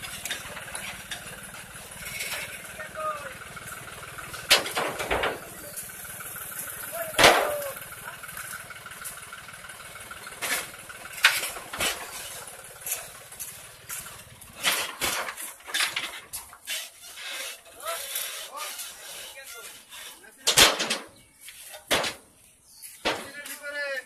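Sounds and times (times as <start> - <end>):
heavy machine engine idling: 0.0 - 19.8.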